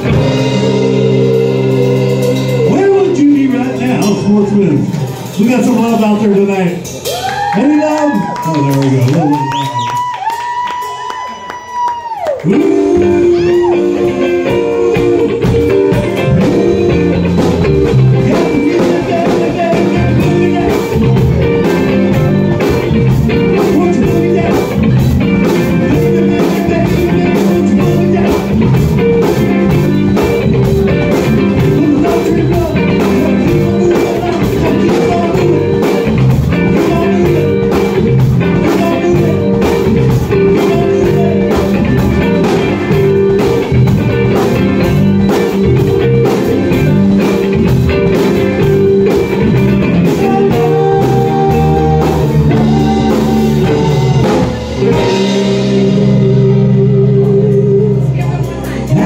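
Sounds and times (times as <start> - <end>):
drum kit: 0.0 - 59.0
electric bass: 0.0 - 59.0
electric guitars: 0.0 - 59.0.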